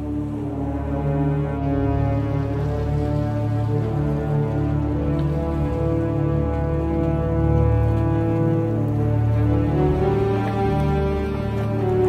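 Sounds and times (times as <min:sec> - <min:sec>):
sustained chords music: 0:00.0 - 0:12.0.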